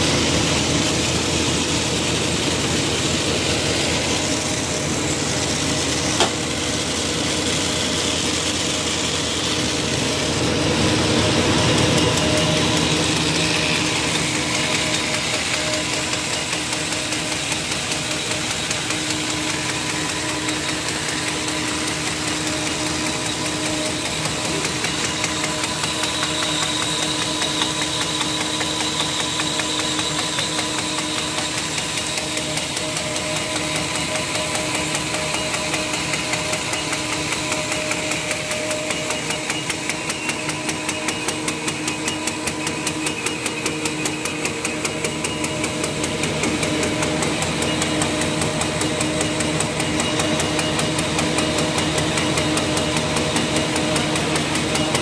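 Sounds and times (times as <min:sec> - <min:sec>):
constant machine hum: 0:00.0 - 0:55.0
machine clattering: 0:00.0 - 0:55.0.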